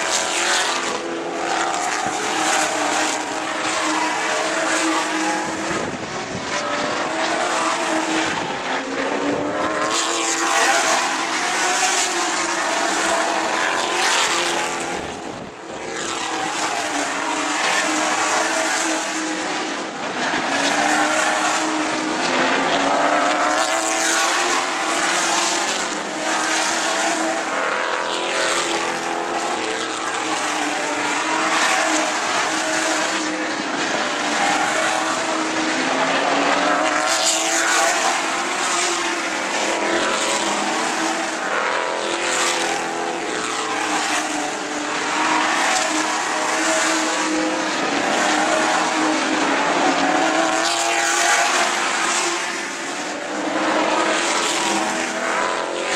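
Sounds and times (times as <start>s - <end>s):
racing car engines passing: 0.0s - 55.9s.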